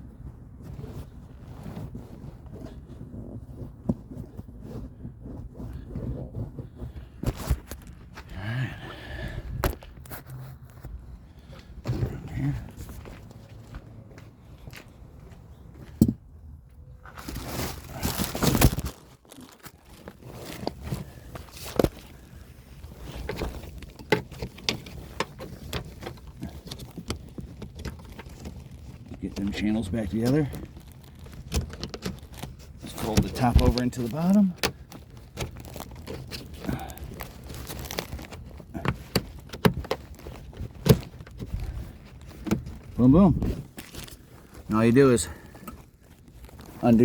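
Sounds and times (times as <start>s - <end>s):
rustling of fabric and vinyl: 0.0s - 47.0s.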